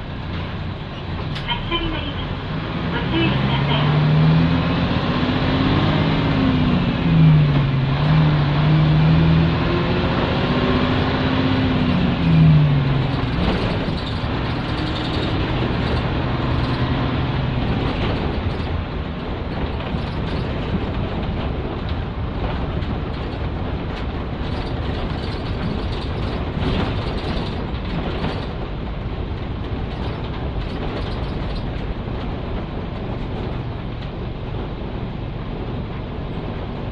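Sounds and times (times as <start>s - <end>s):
bus diesel engine changing gears: 0.0s - 36.9s
rattles in bus: 0.0s - 36.9s
road rumble: 0.0s - 36.9s.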